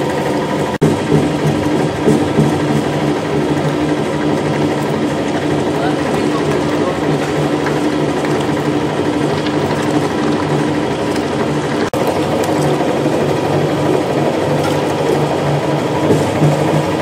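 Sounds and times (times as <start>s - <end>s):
electric meat grinder running: 0.0s - 17.0s.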